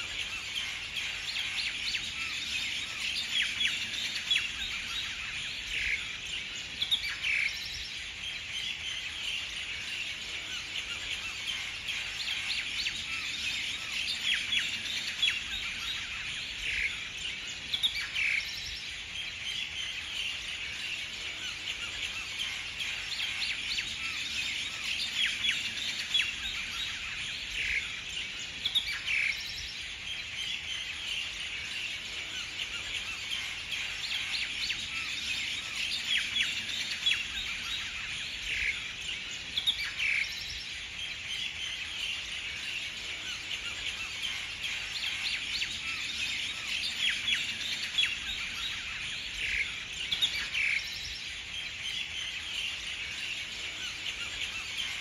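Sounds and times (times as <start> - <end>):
birds chirping chorus: 0.0 - 55.0.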